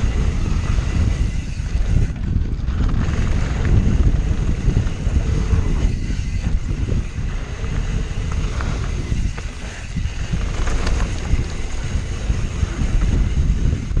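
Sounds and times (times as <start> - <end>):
bike clicks and rattles: 0.0 - 14.0
wind buffeting microphone: 0.0 - 14.0
tyres rumbling on dirt: 1.8 - 13.9.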